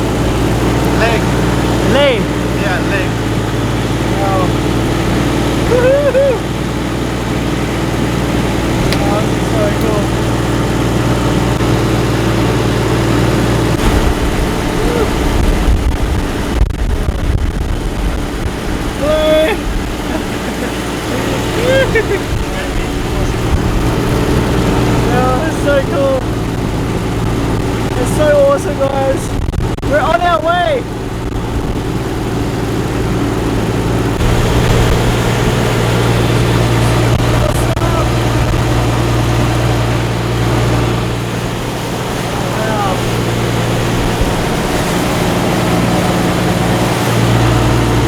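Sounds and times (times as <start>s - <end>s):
boat engine humming: 0.0s - 48.0s
water noise: 0.0s - 48.0s
wind: 0.0s - 48.0s.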